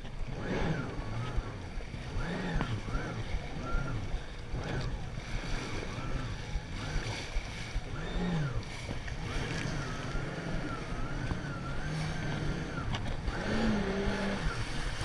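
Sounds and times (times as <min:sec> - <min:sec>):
jet ski engine: 0:00.0 - 0:15.0
wind: 0:00.0 - 0:15.0.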